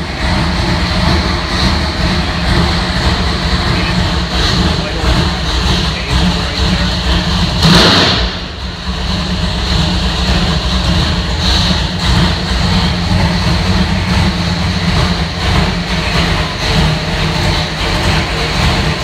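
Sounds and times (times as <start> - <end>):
engine idling with low rumble: 0.0 - 19.0.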